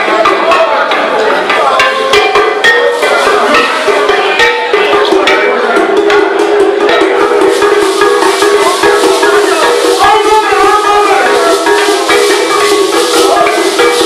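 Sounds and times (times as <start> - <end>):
fast drums and rattles: 0.0 - 14.0
sliding melody line: 0.0 - 14.0.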